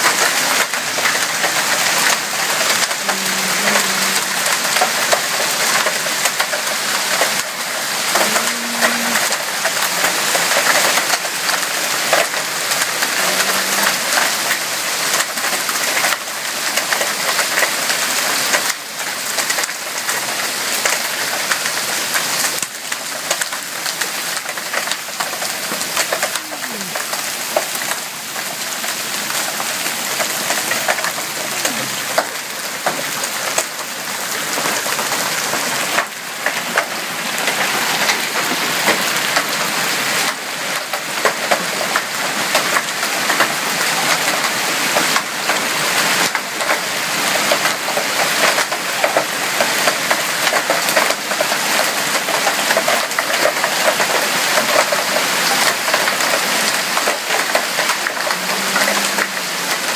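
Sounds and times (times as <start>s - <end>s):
hailstones pelting down: 0.0s - 59.9s.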